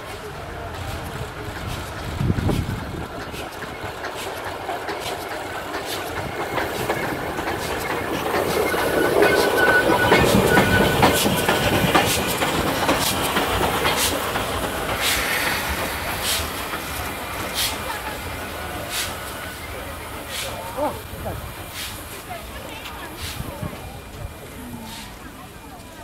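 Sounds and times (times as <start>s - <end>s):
wheels clicking over rail joints: 0.0s - 24.4s
steam locomotive rumbling past: 0.0s - 26.0s.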